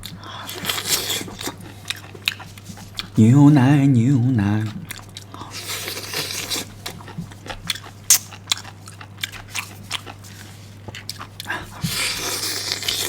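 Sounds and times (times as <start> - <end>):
crunchy chewing: 0.0 - 3.2, 4.6 - 13.0
low steady hum: 0.0 - 13.0.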